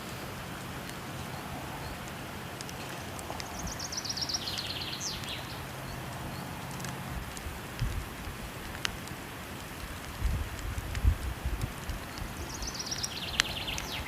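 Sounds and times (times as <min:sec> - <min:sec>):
fire crackles: 0:00.0 - 0:14.0
rushing water: 0:00.0 - 0:14.0
songbird singing: 0:00.0 - 0:14.0.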